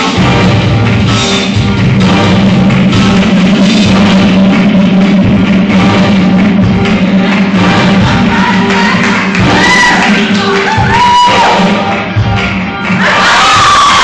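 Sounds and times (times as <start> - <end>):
loud rock music with drums: 0.0 - 14.0.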